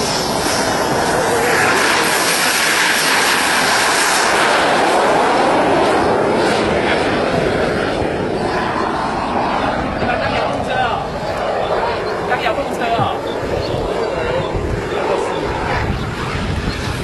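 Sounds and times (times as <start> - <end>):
model jet turbine whine: 0.0 - 17.0.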